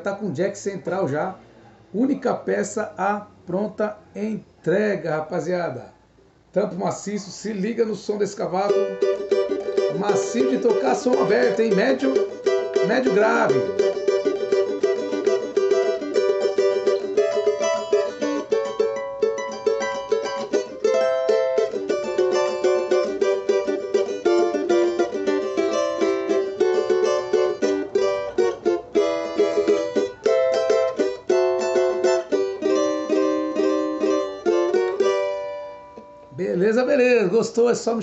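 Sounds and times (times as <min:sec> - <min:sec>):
cavaquinho strummed: 0:06.6 - 0:38.0.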